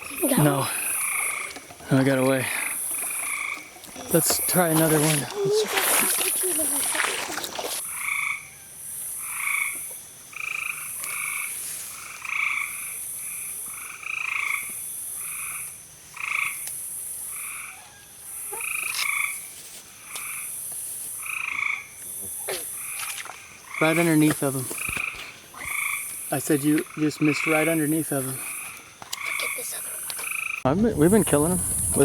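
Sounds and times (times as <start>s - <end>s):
frogs croaking: 0.0s - 32.0s.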